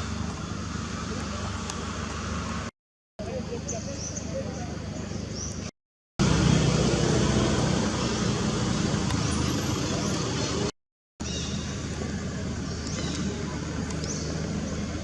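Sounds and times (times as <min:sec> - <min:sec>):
motor vehicle and road noise: 0:00.0 - 0:15.0.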